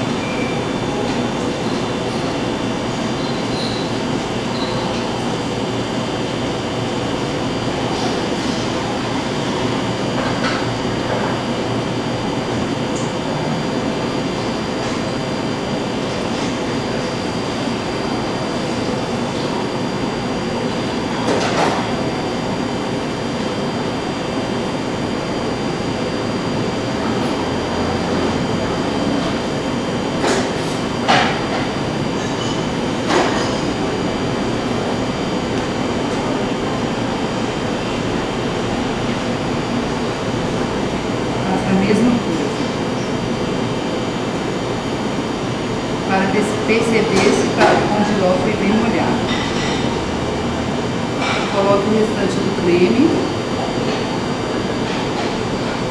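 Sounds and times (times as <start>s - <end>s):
mechanical hum: 0.0s - 55.9s
ventilation fan running: 0.0s - 55.9s.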